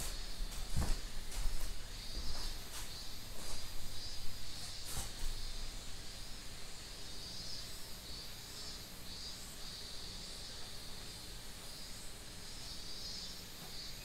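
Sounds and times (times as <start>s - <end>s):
faint low room hum: 0.0s - 14.0s
insects chorus: 0.0s - 14.0s.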